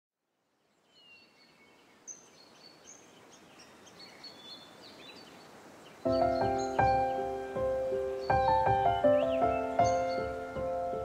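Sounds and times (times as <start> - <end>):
steady background hiss: 0.2 - 11.0
birds chirping and whistling: 0.9 - 11.0.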